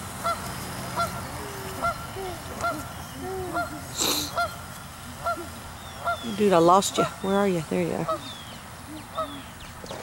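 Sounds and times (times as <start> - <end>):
geese honking: 0.2 - 9.6.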